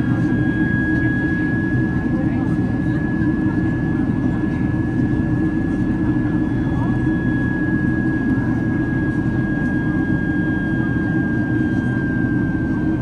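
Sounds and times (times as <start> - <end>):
jet engines and airflow roar: 0.0 - 13.0.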